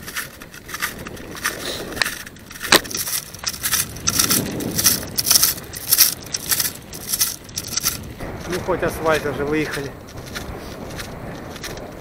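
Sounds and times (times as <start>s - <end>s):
bicycle rattling over rough ground: 0.0s - 12.0s.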